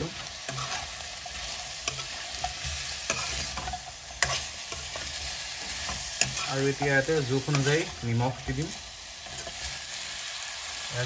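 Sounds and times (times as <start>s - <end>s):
metal spoon stirring in pan: 0.0s - 10.6s
frying sizzle: 0.0s - 11.0s.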